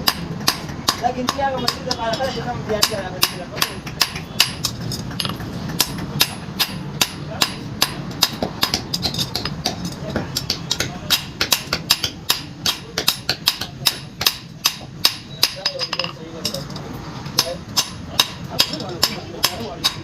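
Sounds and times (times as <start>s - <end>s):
hammer striking iron on anvil: 0.0s - 16.6s, 17.4s - 20.0s.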